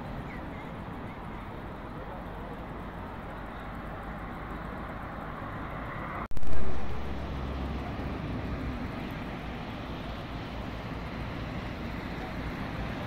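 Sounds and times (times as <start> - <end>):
low vehicle rumble: 0.0 - 13.0
road traffic hum: 0.0 - 13.0.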